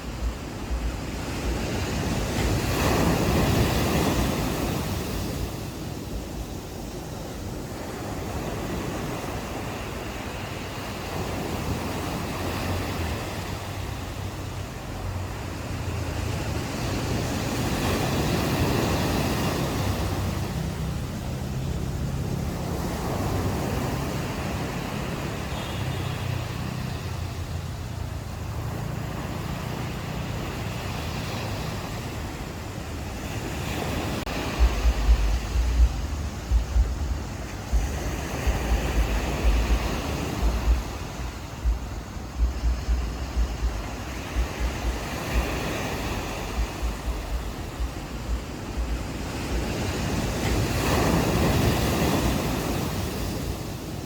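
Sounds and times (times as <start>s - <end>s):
sea waves washing on beach: 0.0s - 54.0s
wind buffeting microphone: 0.0s - 54.0s.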